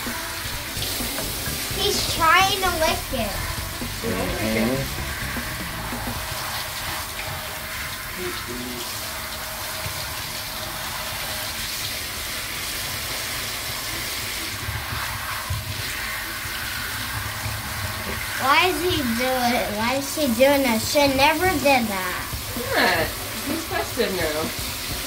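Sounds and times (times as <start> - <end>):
water running into bathtub: 0.0 - 25.0.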